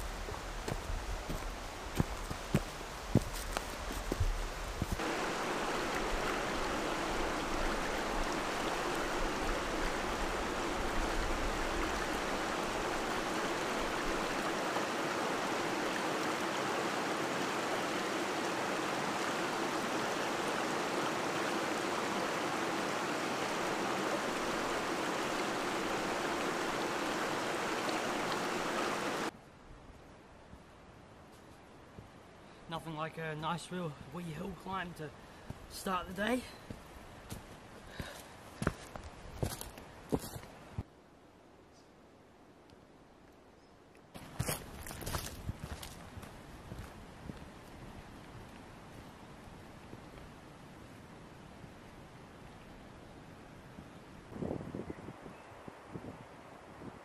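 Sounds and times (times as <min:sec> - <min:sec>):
stream flowing: 0:00.0 - 0:54.4.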